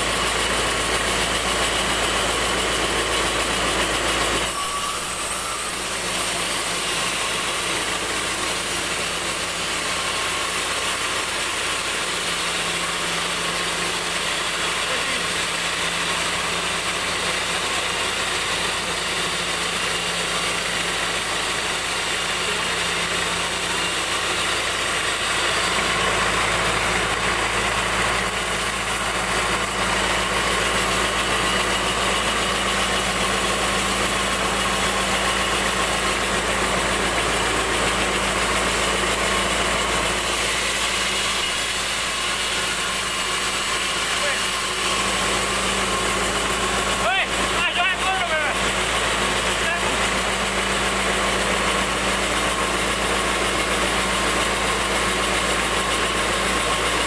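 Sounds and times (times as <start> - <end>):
bandsaw machinery running: 0.0 - 57.0.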